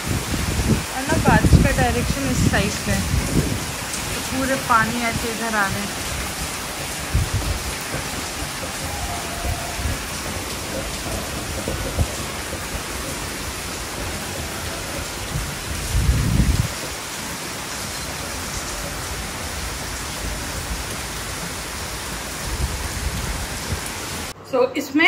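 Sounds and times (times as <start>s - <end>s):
heavy rain pouring: 0.0s - 24.4s.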